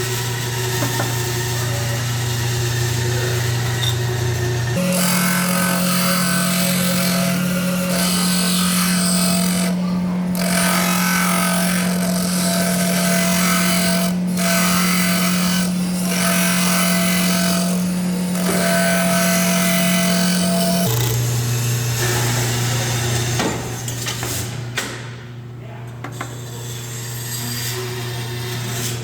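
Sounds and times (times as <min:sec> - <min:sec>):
power sander grinding metal: 0:00.0 - 0:23.8.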